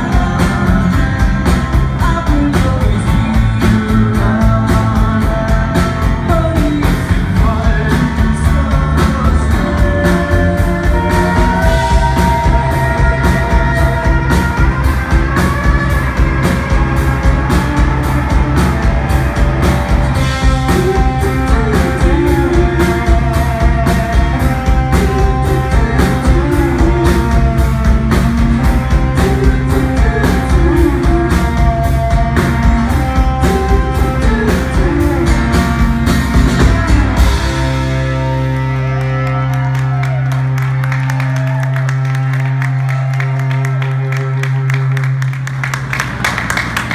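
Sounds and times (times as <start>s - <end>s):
drum kit steady beat: 0.0s - 38.6s
acoustic and electric guitars: 0.0s - 46.9s.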